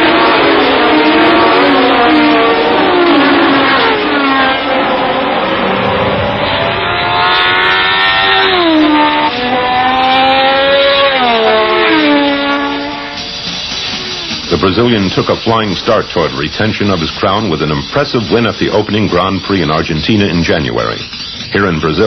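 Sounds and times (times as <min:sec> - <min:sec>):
racing car engines accelerating: 0:00.0 - 0:22.0.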